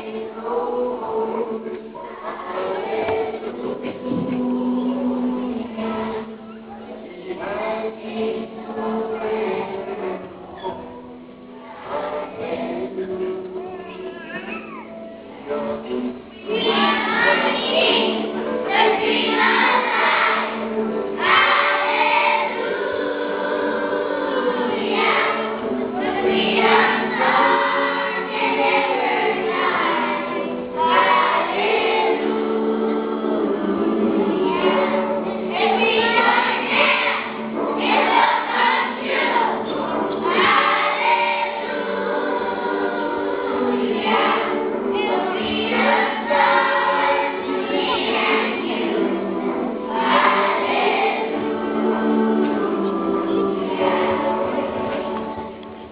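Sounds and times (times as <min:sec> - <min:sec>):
choir singing: 0:00.0 - 0:13.7, 0:15.2 - 0:55.9.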